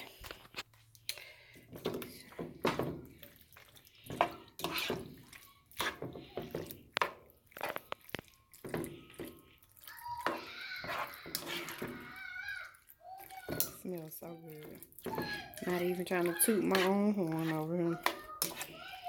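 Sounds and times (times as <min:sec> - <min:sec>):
wet sloshing of sauce: 0:00.0 - 0:19.0.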